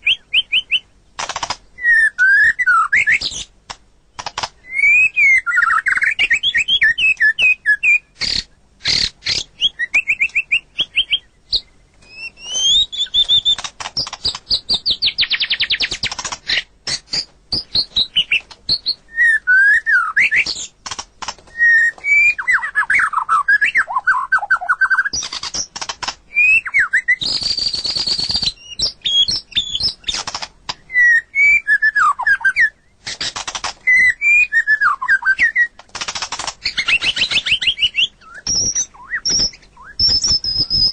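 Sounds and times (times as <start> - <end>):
songbird singing varied song: 0.0 - 40.9.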